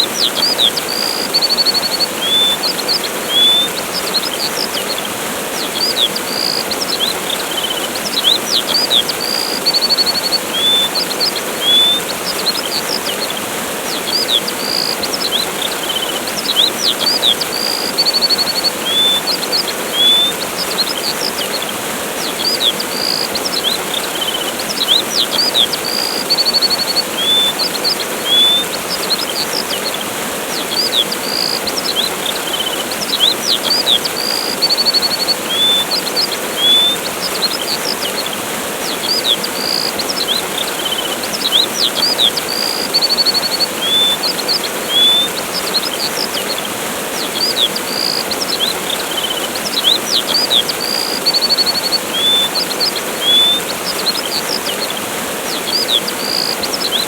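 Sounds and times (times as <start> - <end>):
small birds chirping and trilling: 0.0 - 57.0
waterfall rushing: 0.0 - 57.0.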